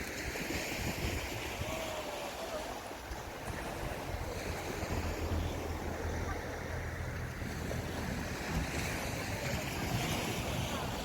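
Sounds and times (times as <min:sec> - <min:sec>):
sea waves breaking on beach: 0:00.0 - 0:11.0
wind rumble on microphone: 0:00.0 - 0:11.0.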